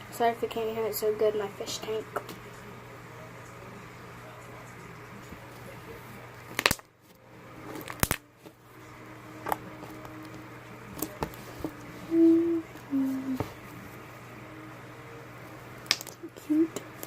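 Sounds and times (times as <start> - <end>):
aquarium hum: 0.0 - 17.0.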